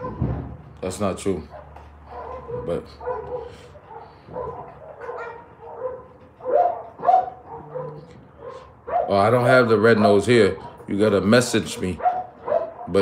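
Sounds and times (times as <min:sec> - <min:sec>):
dogs barking: 0:00.0 - 0:00.4, 0:01.3 - 0:13.0.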